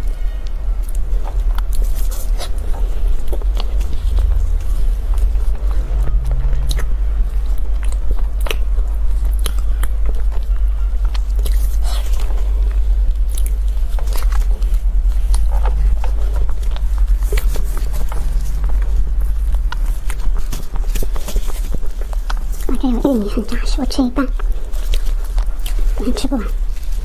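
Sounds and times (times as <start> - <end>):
low rumble: 0.0 - 27.0
person chewing crunchy food: 0.0 - 27.0.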